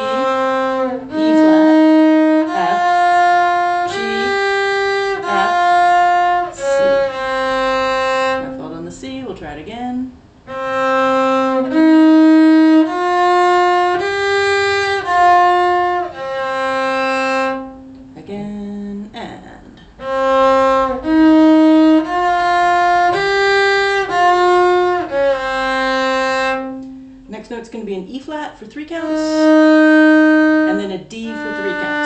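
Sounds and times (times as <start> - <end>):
cello bowing notes: 0.0 - 32.0.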